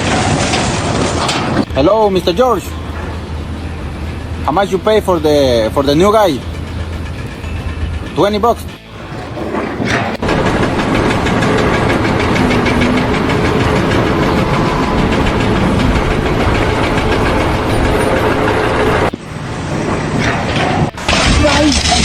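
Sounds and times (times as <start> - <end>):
engine knocking rhythmically: 0.0 - 21.1.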